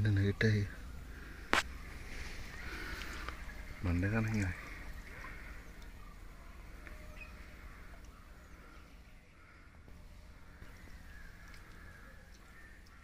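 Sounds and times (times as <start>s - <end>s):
faint crows cawing: 0.0s - 13.0s.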